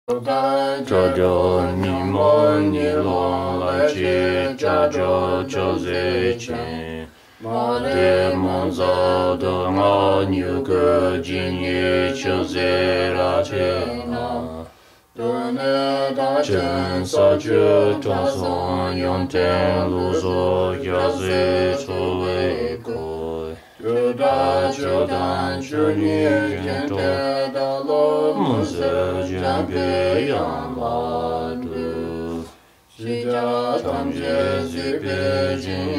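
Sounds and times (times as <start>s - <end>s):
prayer chanting: 0.1s - 35.9s.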